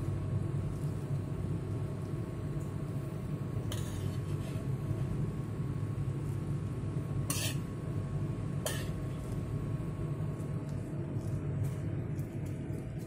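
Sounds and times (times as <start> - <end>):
water boiling on gas flame: 0.0 - 13.0.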